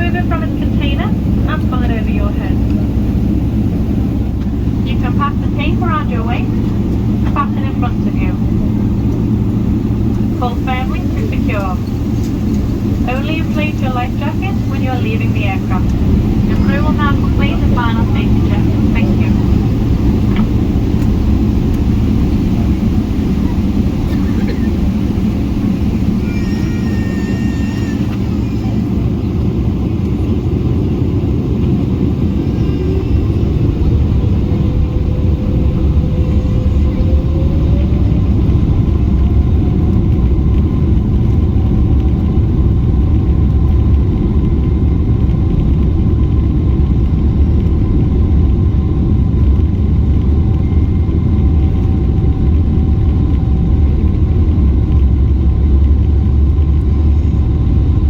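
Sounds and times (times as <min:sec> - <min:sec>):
aircraft engines low rumble: 0:00.0 - 0:58.0.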